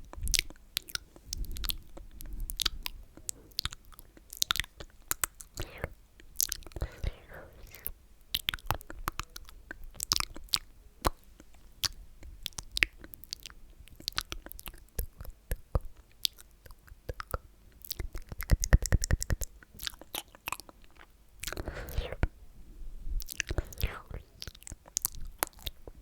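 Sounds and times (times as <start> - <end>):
wet mouth clicks and lip smacks: 0.1 - 22.3, 23.2 - 26.0.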